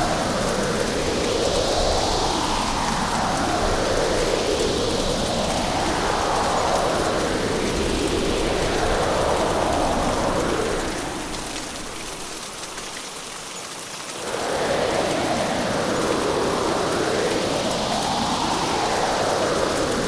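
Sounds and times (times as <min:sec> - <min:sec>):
gusting wind: 0:00.0 - 0:12.8, 0:14.2 - 0:20.0
heavy rain: 0:00.0 - 0:20.0.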